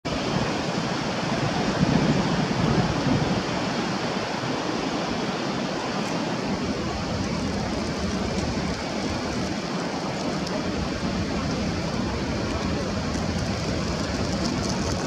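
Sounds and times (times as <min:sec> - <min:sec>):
water rushing in cascade: 0:00.0 - 0:15.0.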